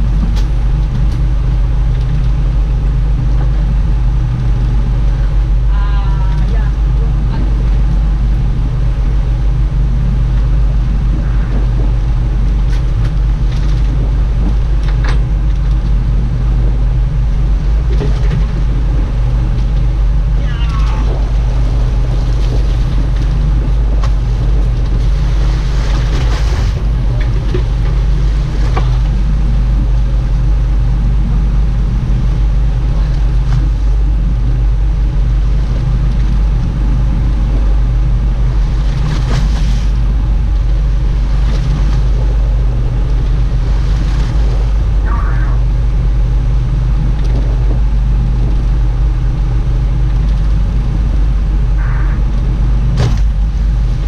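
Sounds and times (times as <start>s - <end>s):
boat engine droning: 0.0s - 54.0s
water or wind noise: 0.0s - 54.0s.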